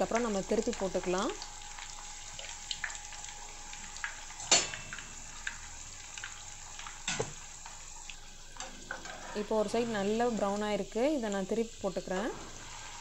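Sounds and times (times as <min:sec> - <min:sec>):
flatbread sizzling in oil: 0:00.0 - 0:13.0.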